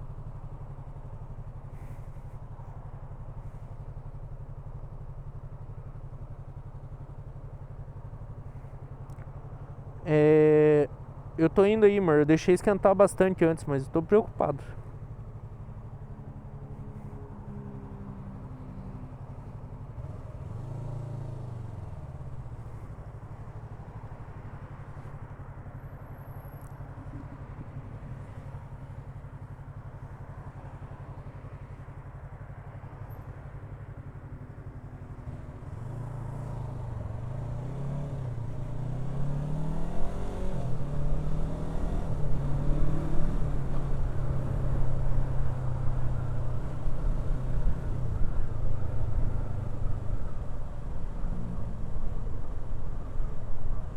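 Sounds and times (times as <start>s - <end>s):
motorcycle engine accelerating: 1.6s - 53.9s.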